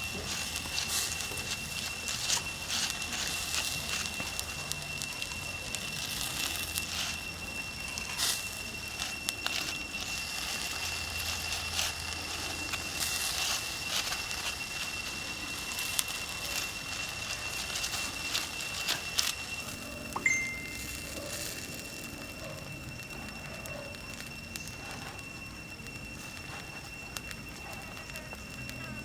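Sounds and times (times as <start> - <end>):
campfire crackling and popping: 0.0 - 29.0
steady high-pitched whine: 0.0 - 29.0.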